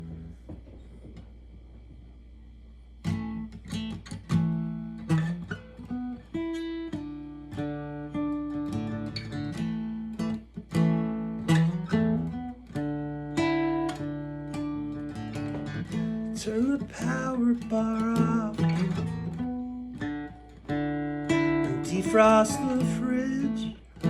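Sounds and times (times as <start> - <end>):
acoustic guitar strummed chords: 3.0 - 24.0.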